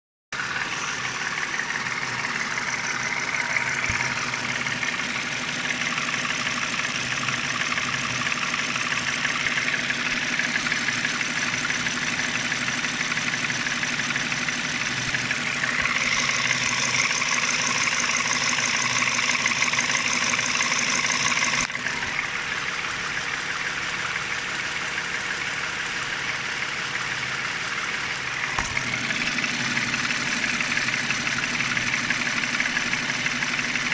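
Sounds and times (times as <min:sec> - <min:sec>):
car engine idling with knocking: 0:00.3 - 0:33.9.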